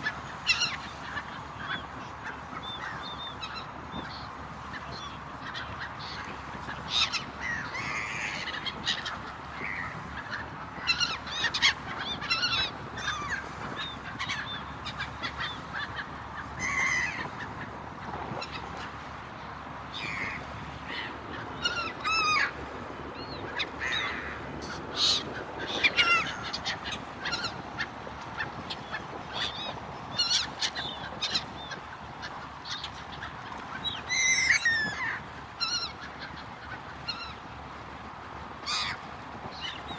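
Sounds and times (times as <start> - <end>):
gulls calling: 0.0 - 39.9.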